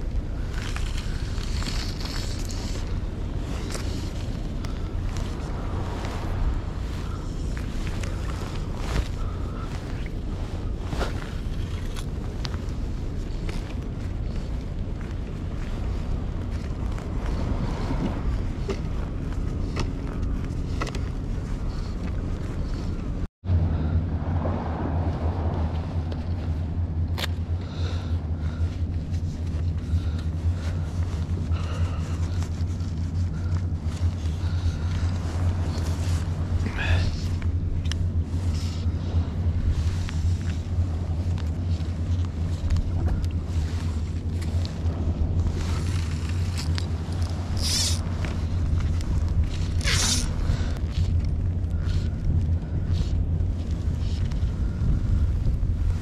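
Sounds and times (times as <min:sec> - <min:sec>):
low engine hum: 0:00.0 - 0:56.0
wind buffeting microphone: 0:00.0 - 0:56.0.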